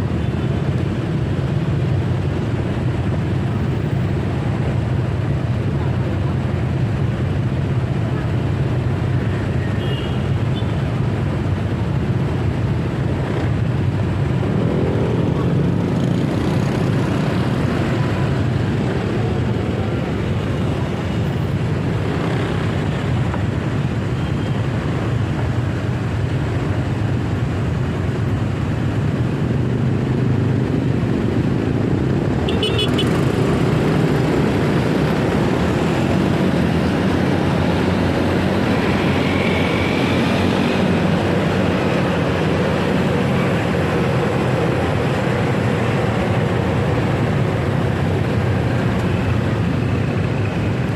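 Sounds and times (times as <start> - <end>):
road noise: 0.0 - 50.9.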